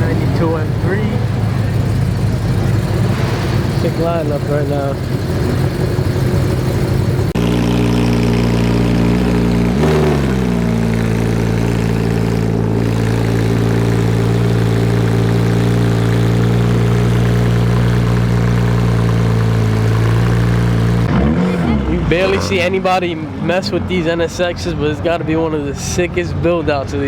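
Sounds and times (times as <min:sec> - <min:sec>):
car engine idling: 0:00.0 - 0:25.7.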